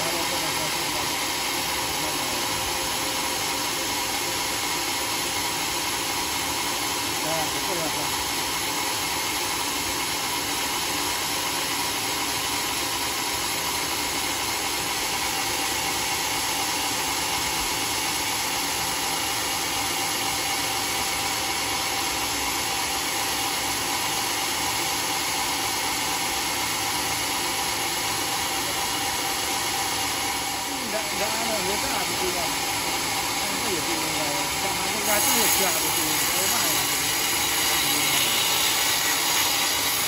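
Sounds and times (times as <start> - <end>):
band saw whirring: 0.0 - 40.0.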